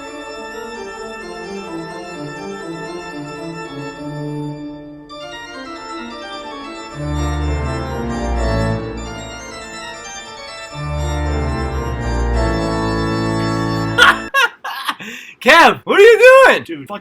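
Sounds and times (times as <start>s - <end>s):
organ music: 0.0s - 14.5s.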